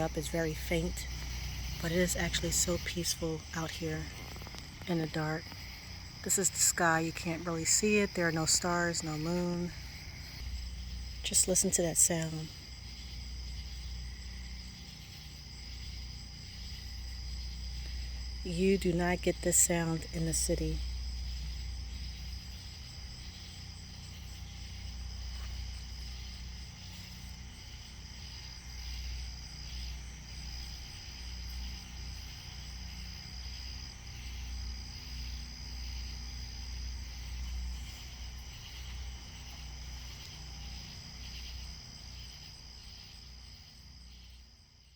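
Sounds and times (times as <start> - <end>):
high insect trill: 0.0 - 44.9
night insects chirring: 0.0 - 44.9.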